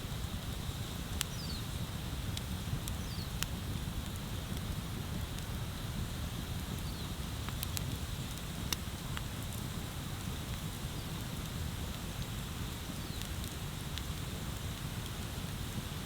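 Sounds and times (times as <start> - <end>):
bonfire rumbling and hissing: 0.0 - 16.0
fire crackles and pops: 0.0 - 16.0.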